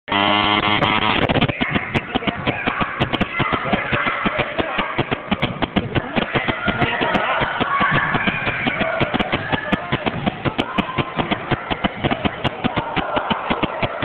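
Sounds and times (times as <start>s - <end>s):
buzzing tone: 0.1s - 14.0s
voices of players and onlookers: 0.1s - 14.0s.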